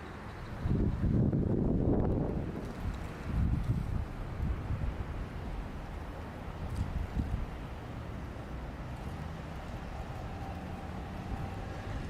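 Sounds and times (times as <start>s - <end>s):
faint outdoor background noise: 0.0s - 12.0s
wind buffeting microphone: 0.2s - 8.2s, 8.9s - 12.0s.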